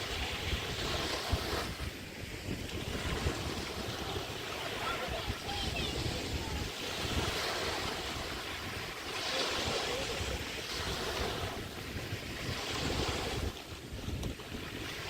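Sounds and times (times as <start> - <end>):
small waves washing on beach: 0.0 - 15.0
wind rumbling on microphone: 0.0 - 15.0.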